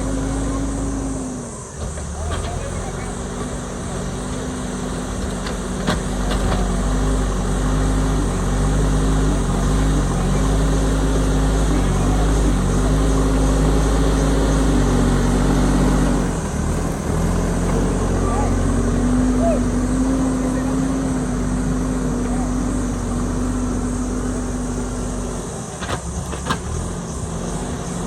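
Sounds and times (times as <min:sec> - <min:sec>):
diesel engine running under load: 0:00.0 - 0:28.0.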